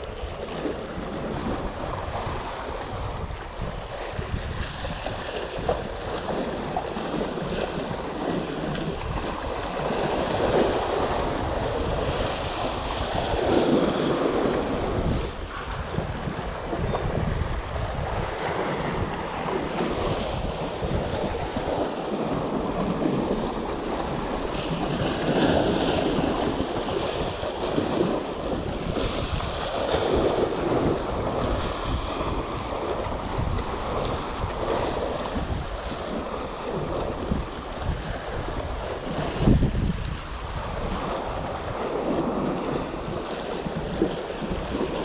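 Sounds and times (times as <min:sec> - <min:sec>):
sea waves splashing over boulders: 0:00.0 - 0:45.0
wind rumbling on microphone: 0:00.0 - 0:45.0.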